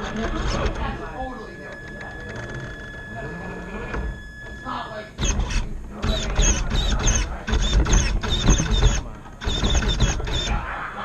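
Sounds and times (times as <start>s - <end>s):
electric motor whine: 0.0s - 10.5s.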